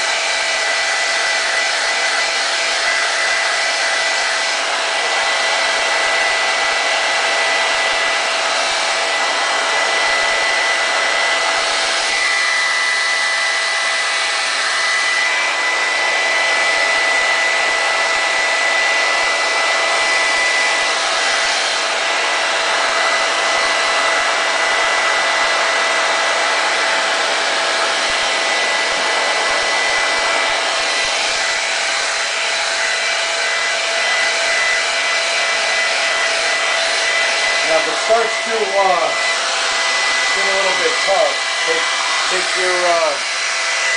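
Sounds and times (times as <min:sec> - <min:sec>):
hair dryer blowing: 0:00.0 - 0:43.9.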